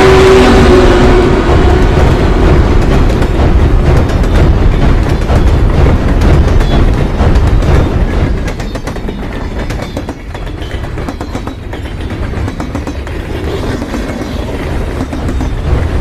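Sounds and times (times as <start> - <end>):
train clattering along rails: 0.0 - 16.0.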